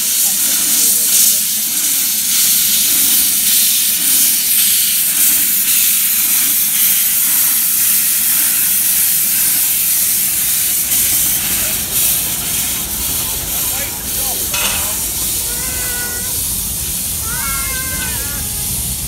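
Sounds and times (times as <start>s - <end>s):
steam hissing from locomotive: 0.0s - 19.0s.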